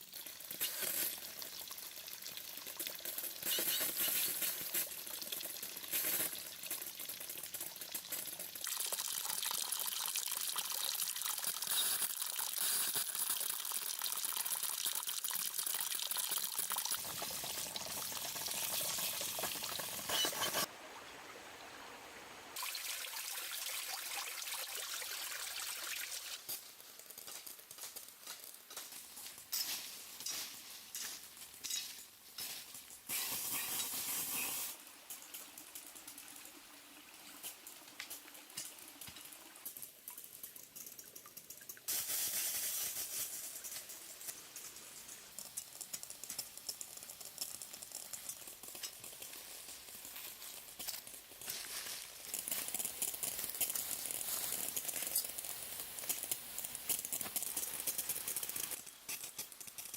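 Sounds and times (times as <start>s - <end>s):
pouring water splashing: 0.0s - 20.7s, 22.6s - 27.5s, 33.1s - 59.9s.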